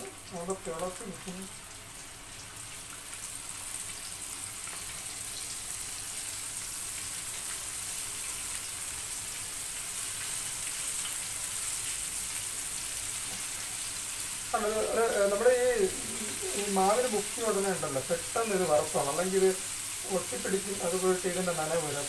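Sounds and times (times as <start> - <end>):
oil sizzling in a frying pan: 0.0 - 22.0.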